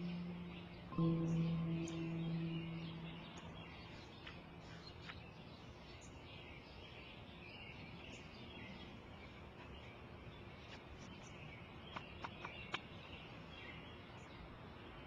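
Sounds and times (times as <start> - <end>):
small birds chirping: 0.0 - 15.0
soft steady hiss: 0.0 - 15.0.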